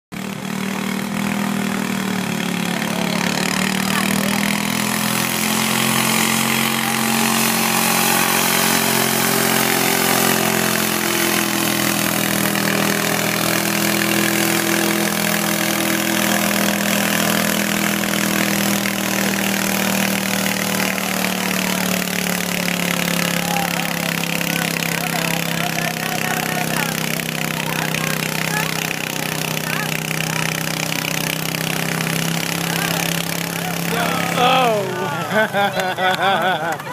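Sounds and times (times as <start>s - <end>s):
tractor engine running under load: 0.1s - 36.9s.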